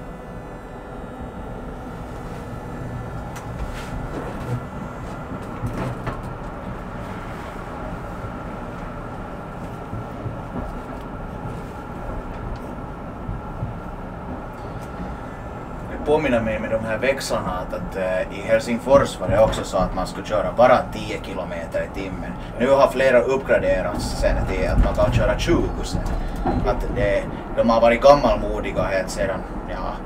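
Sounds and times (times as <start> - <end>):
steady high hum: 0.0 - 30.0
tram wheels rumbling on rails: 0.0 - 30.0.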